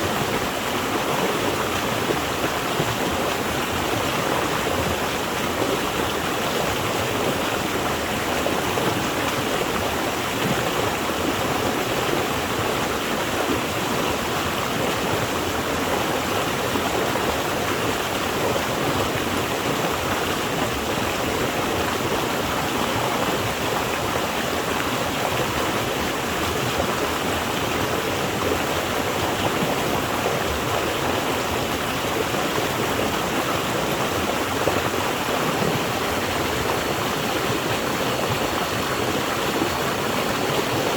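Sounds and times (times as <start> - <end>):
water flowing over rocks: 0.0 - 40.9.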